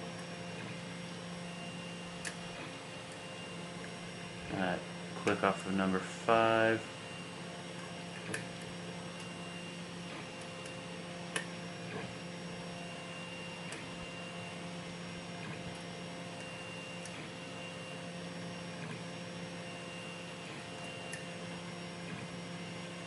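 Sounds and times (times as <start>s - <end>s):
stepper motors humming: 0.0s - 23.0s.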